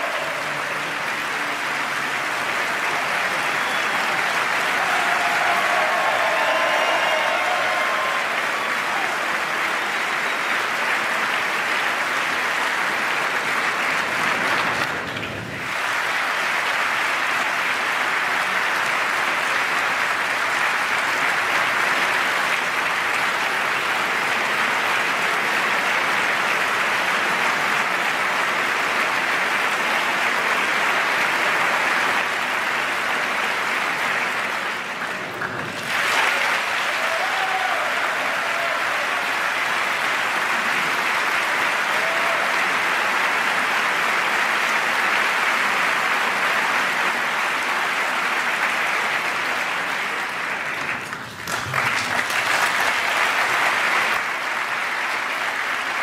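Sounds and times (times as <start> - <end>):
large crowd applauding: 0.0 - 56.0.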